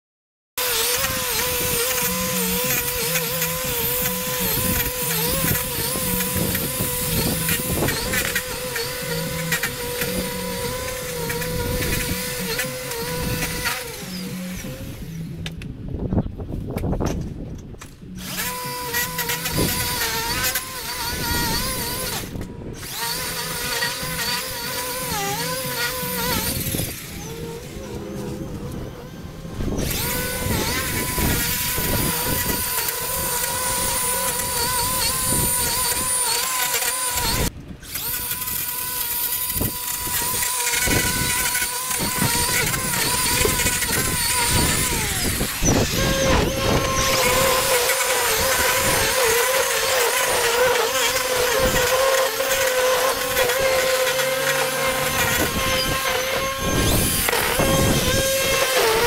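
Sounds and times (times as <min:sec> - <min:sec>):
electric motor whine: 0:00.6 - 0:15.8, 0:17.8 - 0:59.0.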